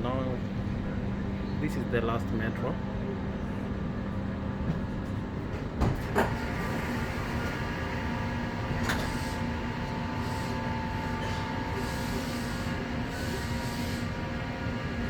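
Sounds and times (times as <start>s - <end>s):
train car hum: 0.0s - 15.0s.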